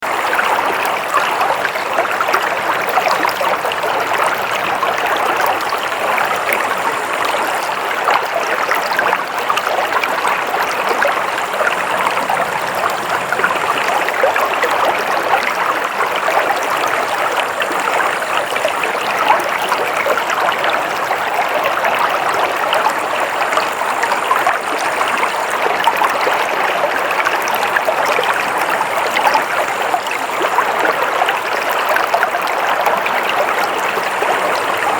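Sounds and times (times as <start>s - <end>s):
stream of running water: 0.0s - 34.9s.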